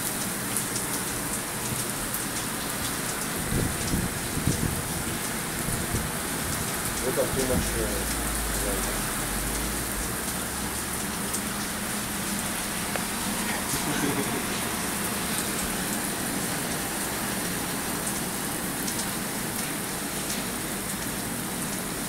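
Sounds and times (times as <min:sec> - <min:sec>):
heavy rain falling: 0:00.0 - 0:22.0
sharp ticks of raindrops: 0:00.0 - 0:22.0.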